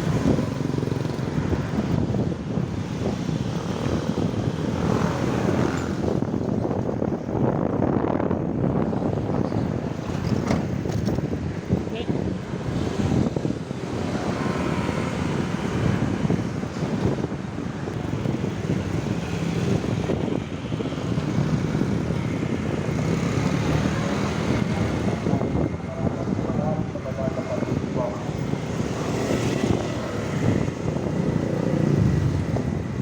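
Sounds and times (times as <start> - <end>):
passing vehicles rumble: 0.0 - 33.0
wind on microphone: 0.0 - 33.0.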